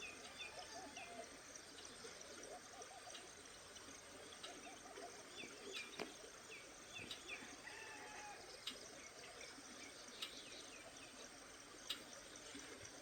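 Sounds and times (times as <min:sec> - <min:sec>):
faint birdsong chirps: 0:00.0 - 0:12.9.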